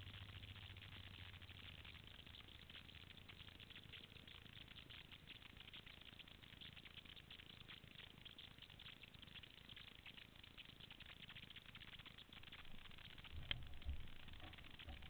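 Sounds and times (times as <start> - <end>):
faint crackling hiss: 0.0 - 15.0.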